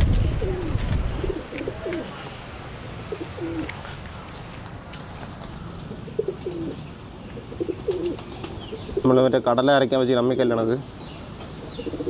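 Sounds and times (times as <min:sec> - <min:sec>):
pigeons cooing: 0:00.2 - 0:04.4, 0:05.1 - 0:09.5, 0:10.2 - 0:12.0.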